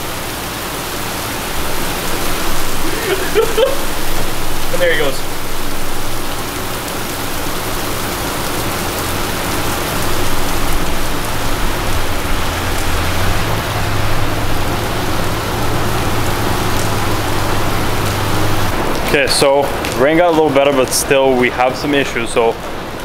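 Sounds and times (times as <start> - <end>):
car engine humming: 0.0 - 23.0
heavy rain on pavement: 0.0 - 23.0.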